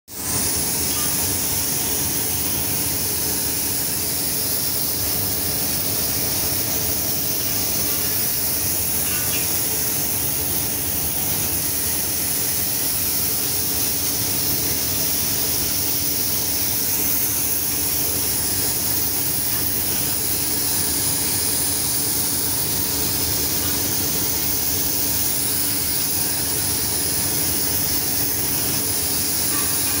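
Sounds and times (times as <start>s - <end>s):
paint spray gun hissing: 0.1s - 30.0s.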